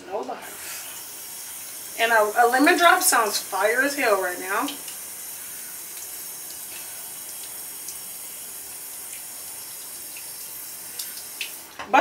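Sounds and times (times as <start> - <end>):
sink tap running: 0.0 - 12.0.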